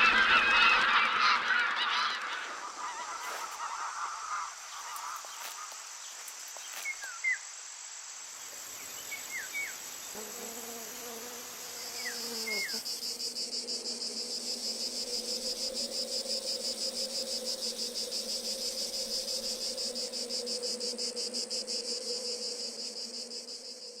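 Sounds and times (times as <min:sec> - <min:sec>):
insect chirping: 0:02.3 - 0:24.0.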